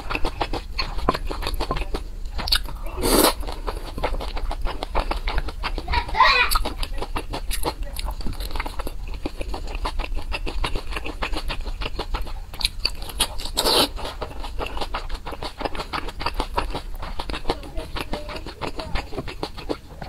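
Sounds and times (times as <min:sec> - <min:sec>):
person chewing wet food: 0:00.0 - 0:20.0.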